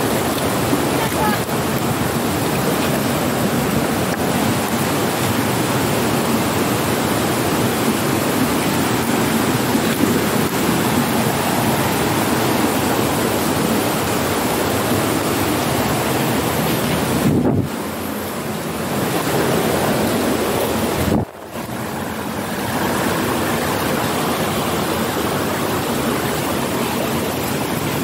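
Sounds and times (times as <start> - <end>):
mountain stream rapids rushing: 0.0 - 28.0.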